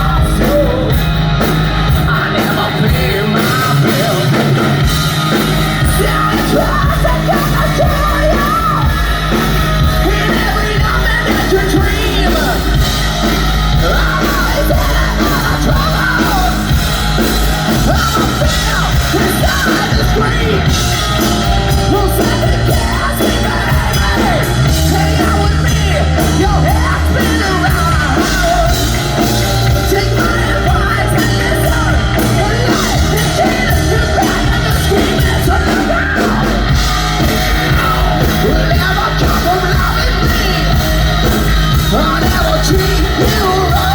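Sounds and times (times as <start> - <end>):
bass guitar line: 0.0 - 43.9
distorted electric guitar: 0.0 - 43.9
drums: 0.0 - 43.9
hard rock band playing: 0.0 - 43.9
lead vocalist singing: 0.0 - 43.9.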